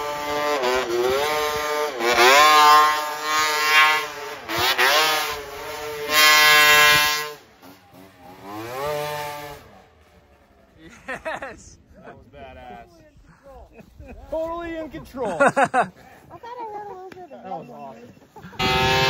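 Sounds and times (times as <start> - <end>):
snowmobile engine revving: 0.0 - 12.8, 14.0 - 15.9, 17.3 - 19.0.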